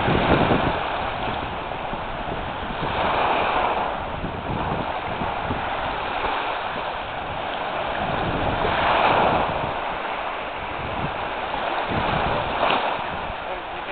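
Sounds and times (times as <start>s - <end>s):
surf washing on shore: 0.0s - 13.9s
wind buffeting microphone: 0.0s - 13.9s.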